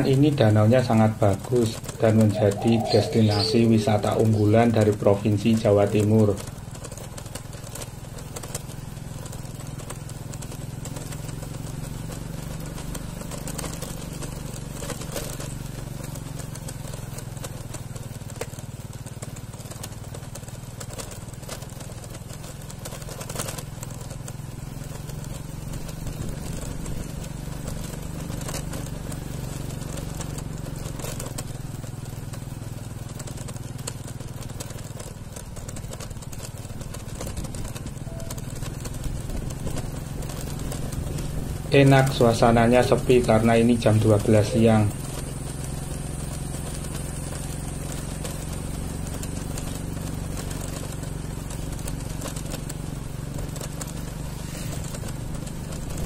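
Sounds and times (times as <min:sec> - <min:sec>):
faint outdoor background noise: 0:00.0 - 0:56.0
small engine humming: 0:00.0 - 0:56.0.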